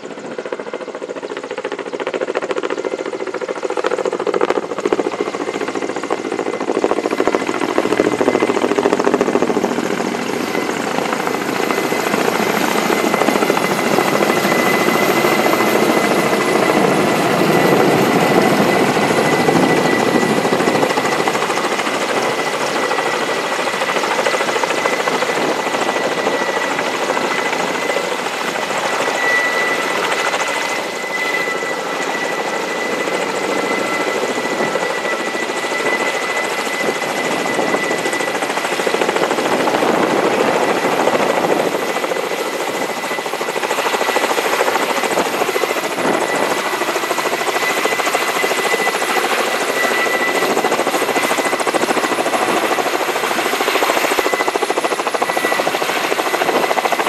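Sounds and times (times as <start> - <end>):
helicopter rotors hovering: 0.0 - 57.0
high turbine whine: 0.0 - 57.0.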